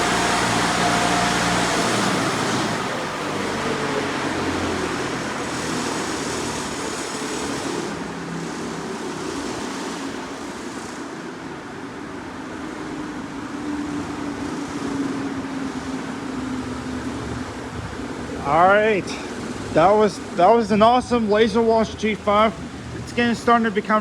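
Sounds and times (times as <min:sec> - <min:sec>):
car wash air and water rushing: 0:00.0 - 0:24.0.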